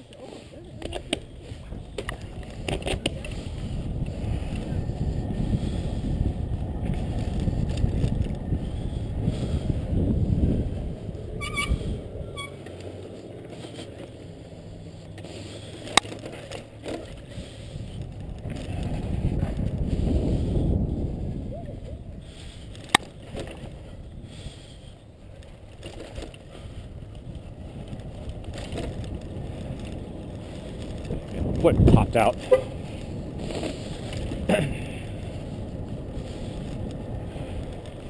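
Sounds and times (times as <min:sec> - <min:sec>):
low rumble of bicycle ride: 0:00.0 - 0:38.0
wind rushing on microphone: 0:00.6 - 0:12.6, 0:17.0 - 0:38.0.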